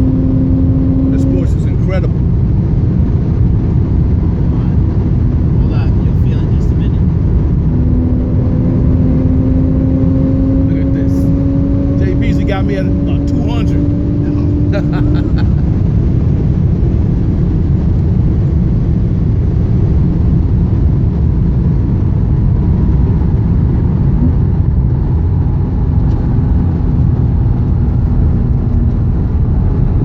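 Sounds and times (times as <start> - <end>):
car engine at high speed: 0.0 - 30.0
road noise inside car: 0.0 - 30.0.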